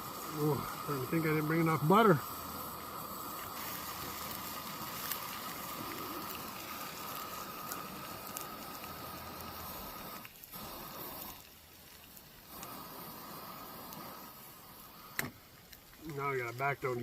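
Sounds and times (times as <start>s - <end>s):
food sizzling in a frying pan: 0.0s - 17.0s
small crackles: 0.0s - 17.0s.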